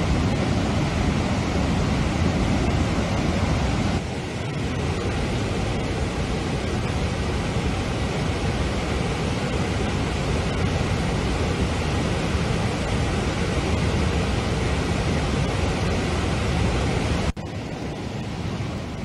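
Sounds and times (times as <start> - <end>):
floodwater rushing through dam gates: 0.0 - 19.0.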